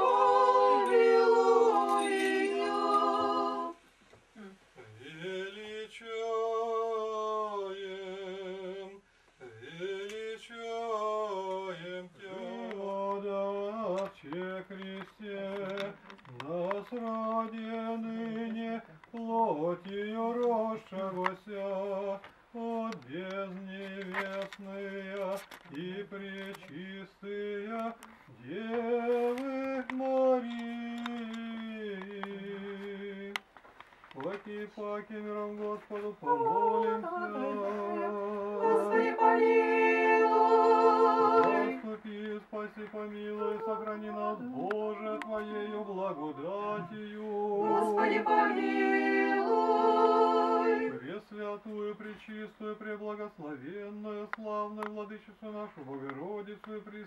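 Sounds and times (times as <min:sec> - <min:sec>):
unaccompanied church chant: 0:00.0 - 0:57.0.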